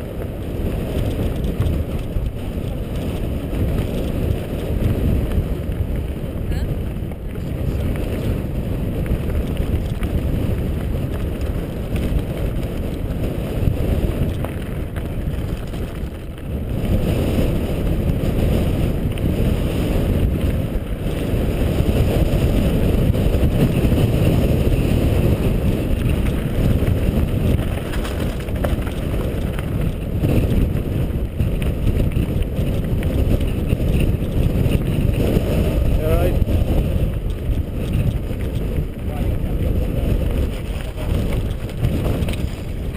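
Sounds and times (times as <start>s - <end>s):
tyres rumbling over loose stones: 0.0s - 42.9s
wind rushing over microphone: 0.0s - 42.9s.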